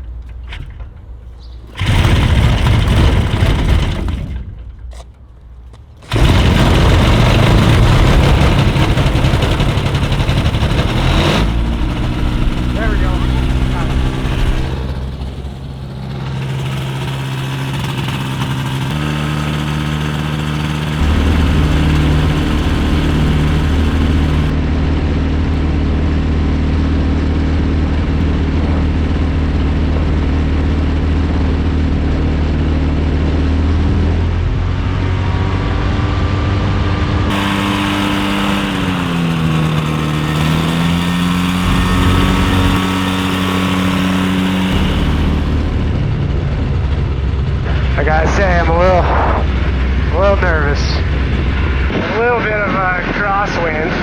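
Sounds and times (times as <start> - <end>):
ultralight aircraft engine running: 1.8 - 4.4, 6.0 - 54.0.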